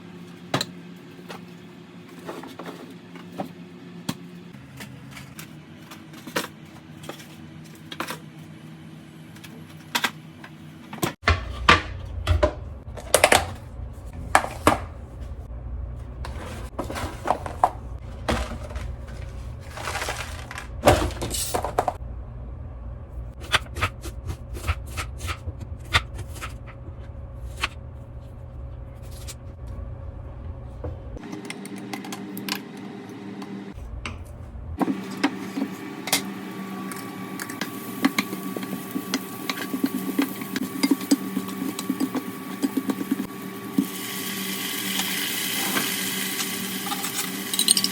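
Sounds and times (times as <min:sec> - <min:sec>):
steady low hum: 0:03.0 - 0:43.9.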